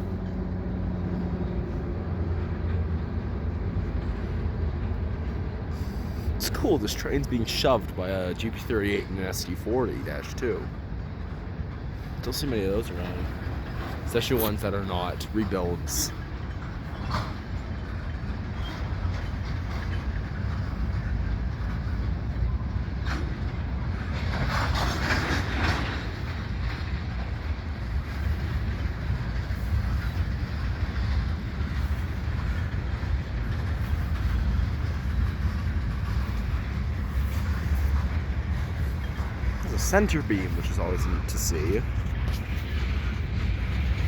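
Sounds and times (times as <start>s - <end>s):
freight cars rumbling past: 0.0s - 44.0s
wheels clacking over rail joints: 0.0s - 44.0s.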